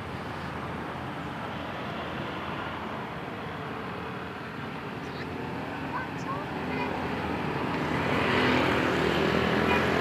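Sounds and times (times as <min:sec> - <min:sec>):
road traffic: 0:00.0 - 0:10.0.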